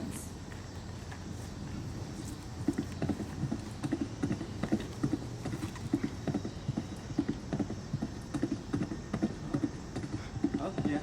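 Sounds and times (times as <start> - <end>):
galloping horse hooves: 0.0 - 11.0.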